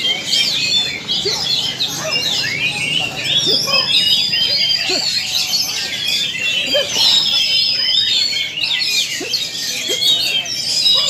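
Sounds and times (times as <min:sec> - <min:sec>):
murmur of crowd: 0:00.0 - 0:11.0
songbirds whistling: 0:00.0 - 0:11.0.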